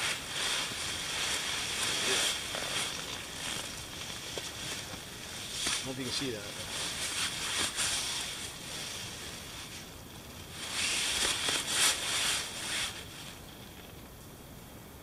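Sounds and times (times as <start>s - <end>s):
hammock fabric rustling: 0.0s - 14.0s.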